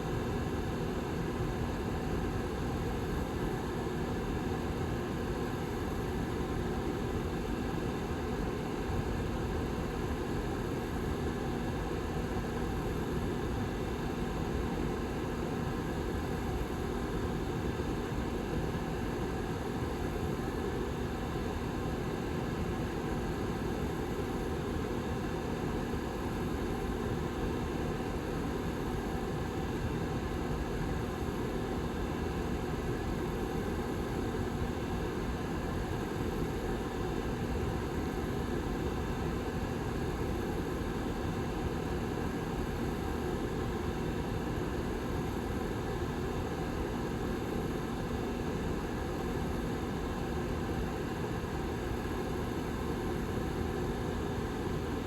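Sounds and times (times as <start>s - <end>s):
heater fan whirring: 0.0s - 55.0s.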